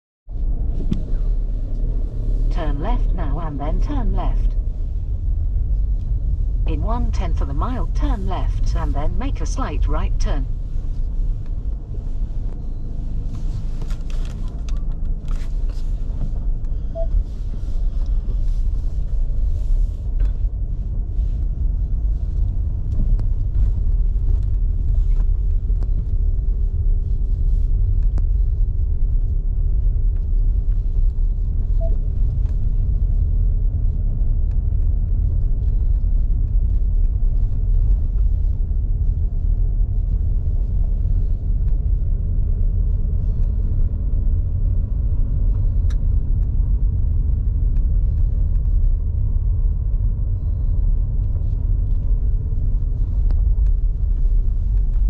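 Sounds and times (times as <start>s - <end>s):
engine and tyre rumble: 0.3s - 55.0s.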